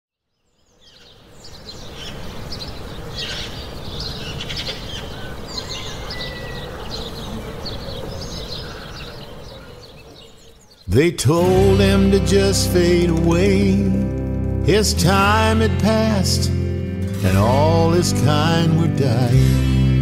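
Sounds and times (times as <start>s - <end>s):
birds chirping: 0.2s - 19.0s.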